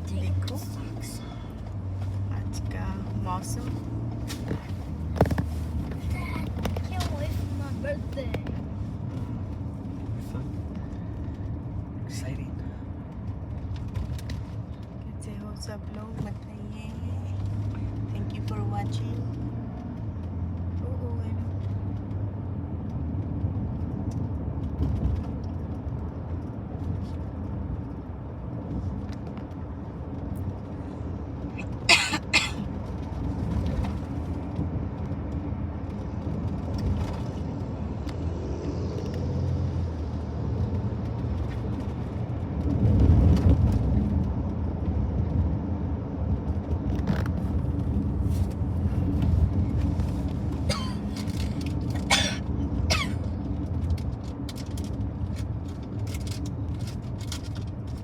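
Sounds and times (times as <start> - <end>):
car road rumble inside cabin: 0.0 - 58.0.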